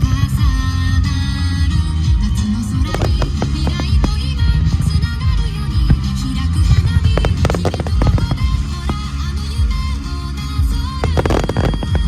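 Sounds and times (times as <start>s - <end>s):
loud music: 0.0s - 12.0s.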